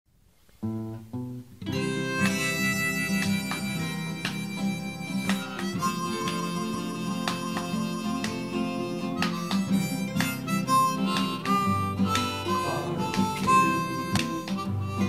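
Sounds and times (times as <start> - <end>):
strummed guitar: 0.6 - 15.0
harmonica playing: 1.7 - 15.0.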